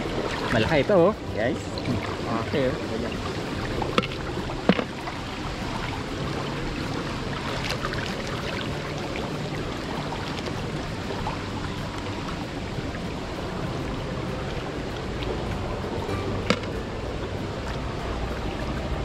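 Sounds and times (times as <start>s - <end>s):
shallow water running in a canal: 0.0s - 19.0s.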